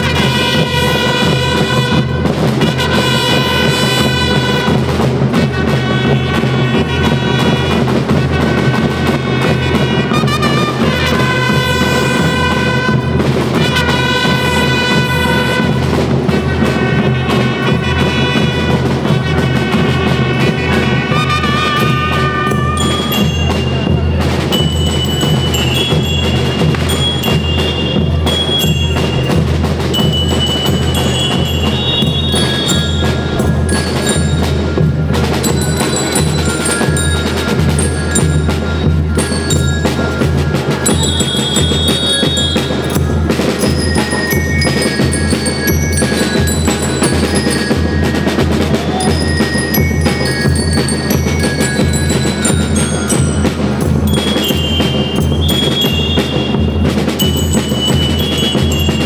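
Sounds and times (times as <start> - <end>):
bass drum beat: 0.0 - 49.2
snare drum strokes: 0.0 - 59.0
bell lyres melody: 8.9 - 59.0.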